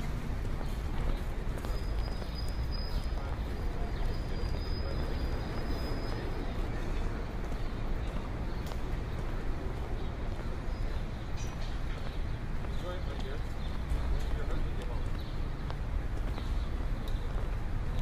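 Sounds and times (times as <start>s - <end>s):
low street rumble: 0.0s - 18.0s.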